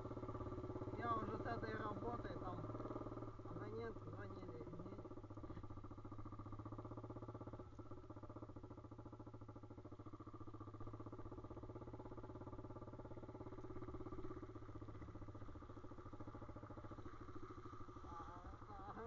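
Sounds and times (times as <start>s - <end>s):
motorbike engine running: 0.0s - 19.0s.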